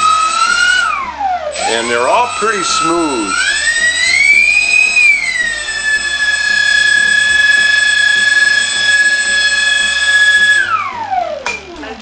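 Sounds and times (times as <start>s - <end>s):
electric motors whining: 0.0s - 11.4s.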